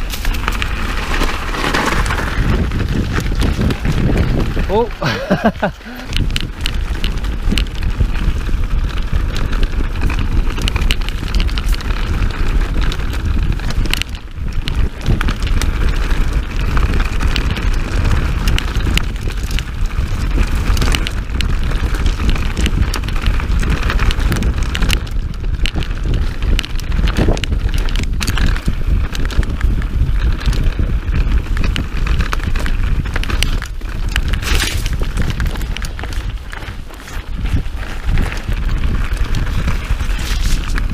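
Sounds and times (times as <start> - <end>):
bike rattling over bumps: 0.0 - 40.9
tyres on dirt and stones: 0.0 - 40.9
wind on microphone: 0.0 - 40.9.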